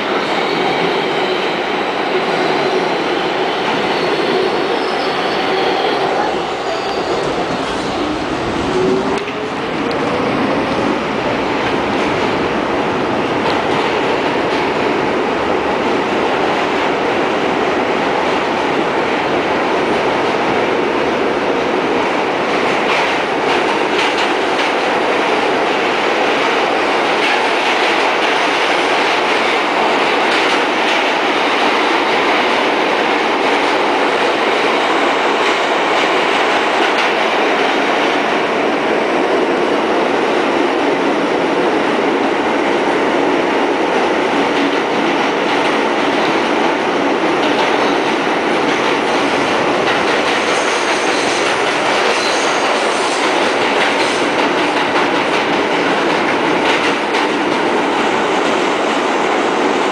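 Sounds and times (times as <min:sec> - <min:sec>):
rail clicks: 0:00.0 - 0:59.9
subway car wheels on rail: 0:00.0 - 0:59.9.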